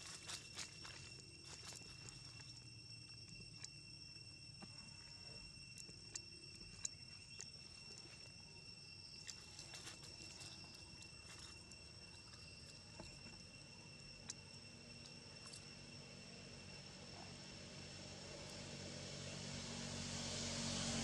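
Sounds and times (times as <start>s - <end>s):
drone of forest insects: 0.0s - 21.0s.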